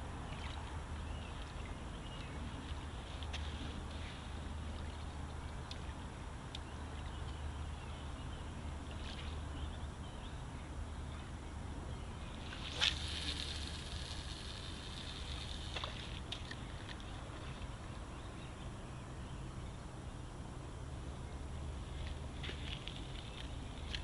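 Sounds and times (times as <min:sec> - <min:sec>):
river water: 0:00.0 - 0:24.0
wind: 0:00.0 - 0:24.0.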